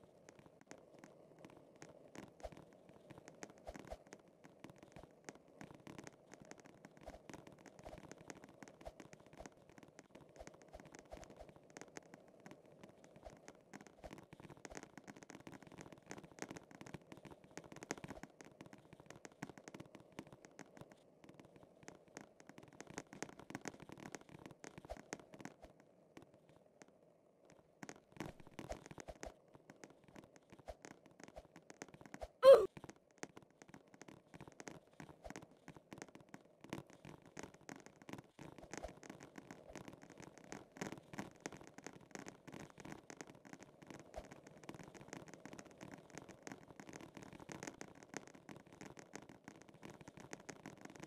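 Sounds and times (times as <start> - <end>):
faint clicks and crackles: 0.0 - 51.0.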